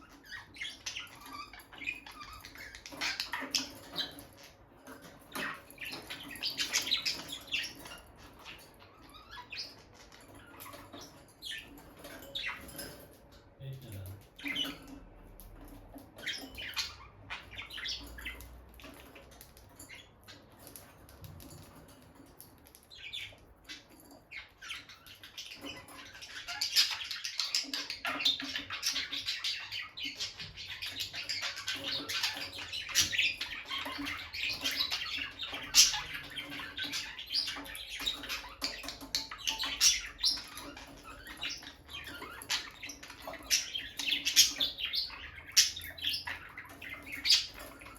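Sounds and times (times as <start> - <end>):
lovebirds chirping: 0.0 - 47.9.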